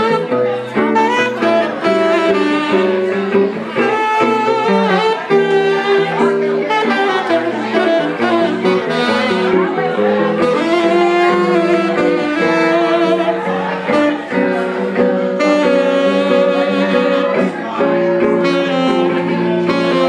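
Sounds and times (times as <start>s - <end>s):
guitar accompaniment: 0.0s - 20.0s
saxophone melody: 0.0s - 20.0s.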